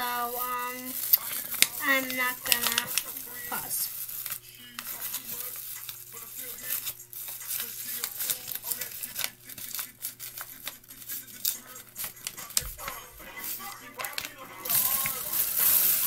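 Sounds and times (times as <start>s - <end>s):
paper crinkling: 0.0s - 16.0s.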